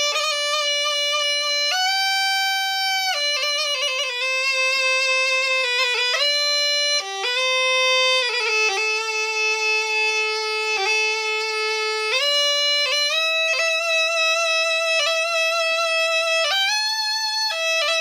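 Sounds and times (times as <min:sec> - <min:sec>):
bagpipe playing slow melody: 0:00.0 - 0:18.0.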